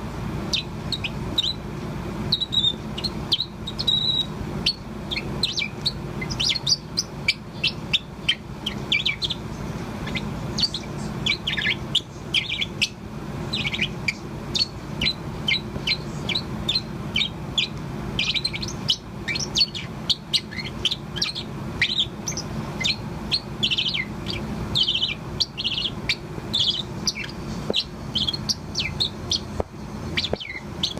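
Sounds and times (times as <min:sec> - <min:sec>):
steady low hum: 0:00.0 - 0:30.9
parrot chirping and twittering: 0:00.4 - 0:30.9.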